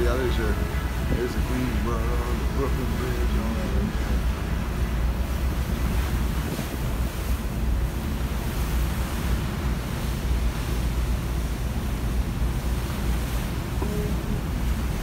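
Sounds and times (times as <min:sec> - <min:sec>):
choppy water rushing: 0:00.0 - 0:15.0.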